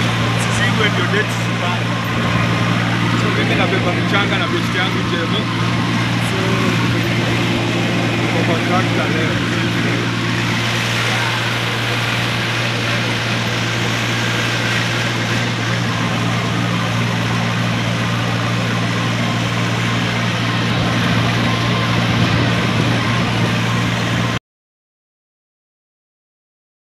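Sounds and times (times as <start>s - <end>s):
tractor engine droning: 0.0s - 24.4s.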